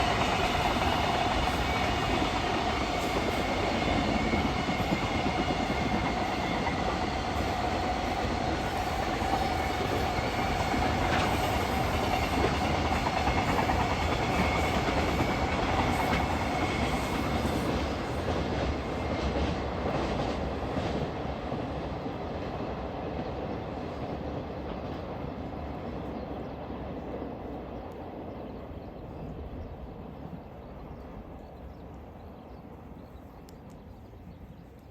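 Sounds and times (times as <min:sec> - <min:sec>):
freight train rumbling past: 0:00.0 - 0:34.8.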